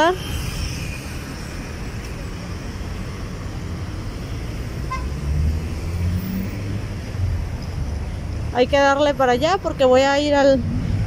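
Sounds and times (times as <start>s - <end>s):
cars driving past: 0.0s - 11.0s
vehicle engine rumbling: 0.0s - 11.0s.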